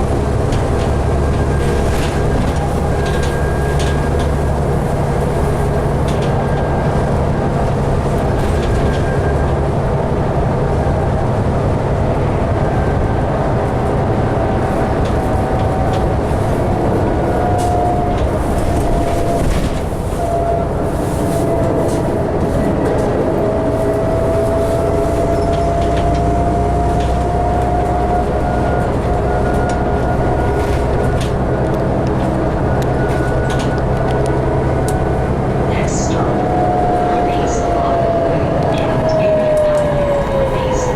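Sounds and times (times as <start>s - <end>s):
bus engine drone: 0.0s - 40.9s
engine whine: 0.0s - 40.9s.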